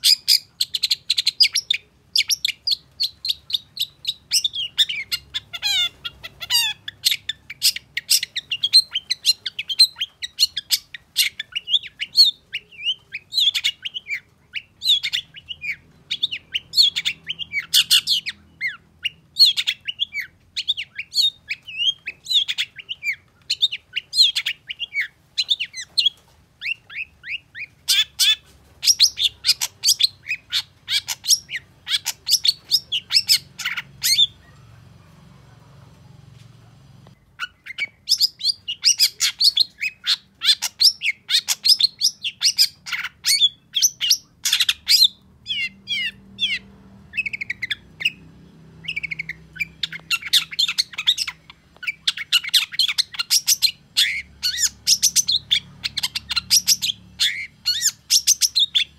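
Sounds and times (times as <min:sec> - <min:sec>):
shrike singing chattering song: 0:00.0 - 0:34.9, 0:37.4 - 0:58.9.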